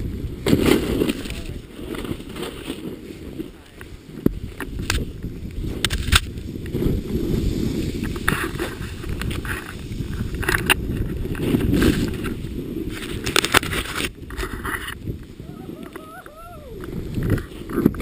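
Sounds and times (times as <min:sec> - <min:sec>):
snowboard sliding through powder: 0:00.0 - 0:18.0
wind buffeting microphone: 0:00.0 - 0:18.0.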